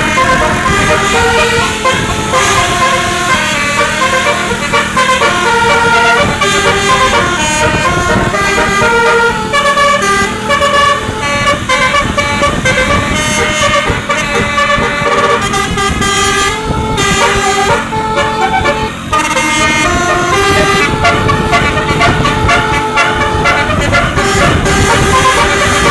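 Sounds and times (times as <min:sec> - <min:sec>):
bus horn playing a tune: 0:00.0 - 0:25.9.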